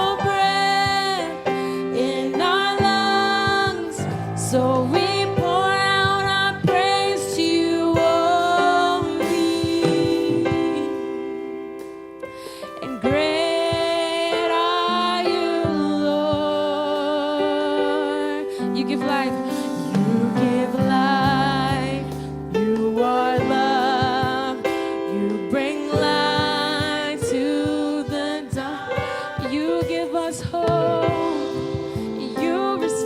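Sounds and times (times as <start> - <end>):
person singing gospel: 0.0 - 11.5, 12.5 - 33.0
held keyboard chords: 0.0 - 33.0.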